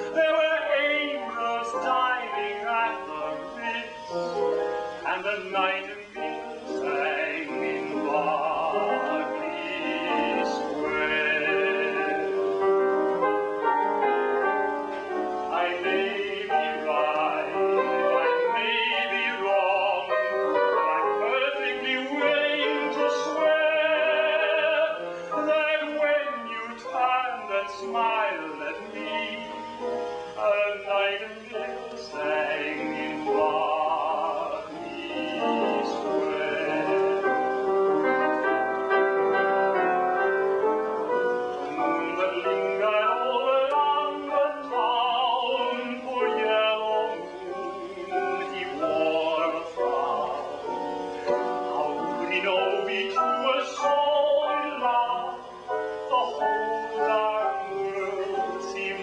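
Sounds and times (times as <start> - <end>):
man singing with vibrato: 0.0 - 59.0
piano accompaniment: 0.0 - 59.0.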